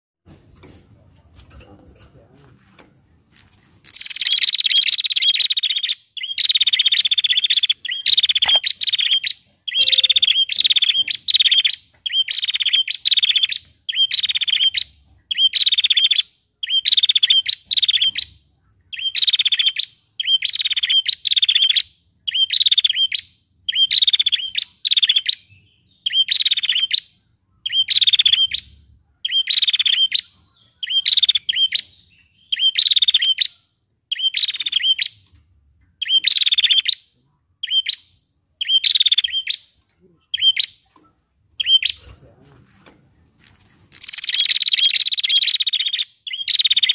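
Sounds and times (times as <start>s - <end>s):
bird buzzy trill calls: 3.8s - 35.3s, 36.0s - 40.9s, 41.6s - 42.2s, 43.9s - 46.9s.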